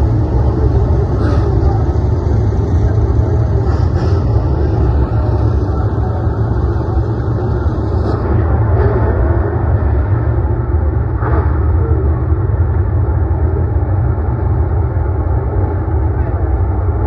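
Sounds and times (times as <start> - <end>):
race car engines rumbling: 0.0 - 17.0.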